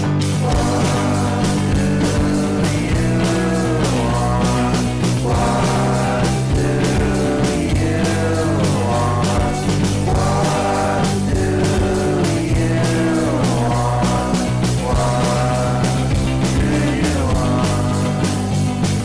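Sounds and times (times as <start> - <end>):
person singing: 0.0 - 19.0
steady low music notes: 0.0 - 19.0.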